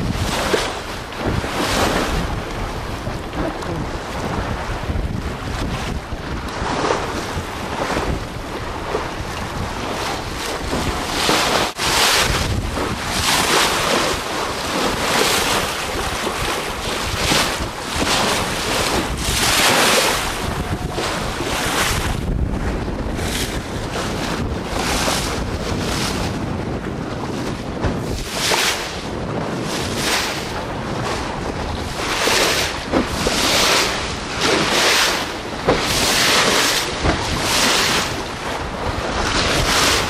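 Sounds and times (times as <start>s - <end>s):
water rushing along boat hull: 0.0s - 40.0s
wind buffeting microphone: 0.0s - 40.0s.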